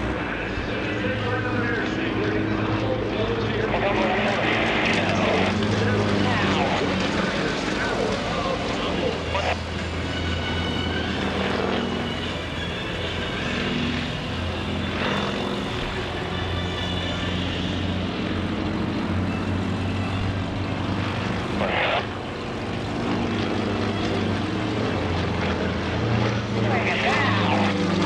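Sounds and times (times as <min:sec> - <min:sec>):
propeller planes droning overhead: 0:00.0 - 0:28.0.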